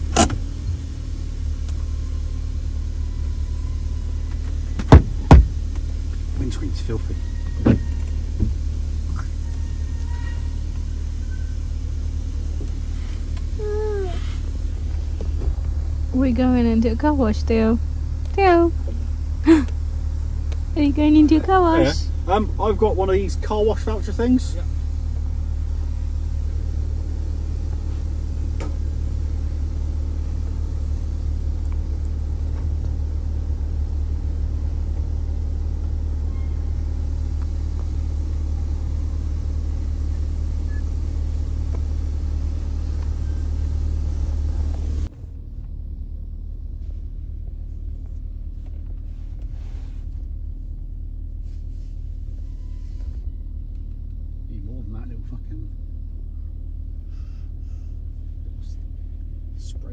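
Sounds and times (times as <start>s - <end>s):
car engine rumble inside cabin: 0.0s - 59.9s.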